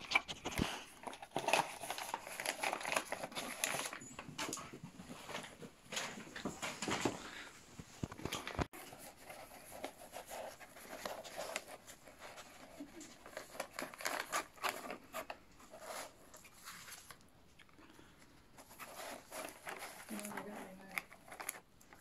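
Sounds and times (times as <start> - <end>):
rustling of cardboard and packaging: 0.0 - 17.3, 18.1 - 22.0.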